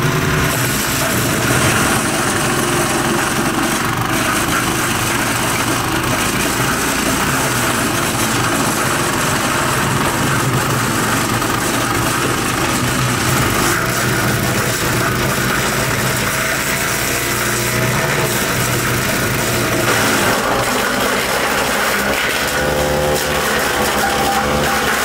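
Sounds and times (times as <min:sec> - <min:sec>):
wood chipper engine running: 0:00.0 - 0:25.0
branches being chipped: 0:00.6 - 0:25.0.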